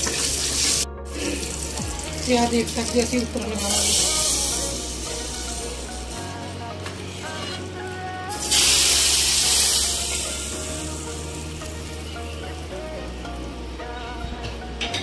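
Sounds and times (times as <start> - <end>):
loud sizzle of hot ghee: 0.0 - 14.1.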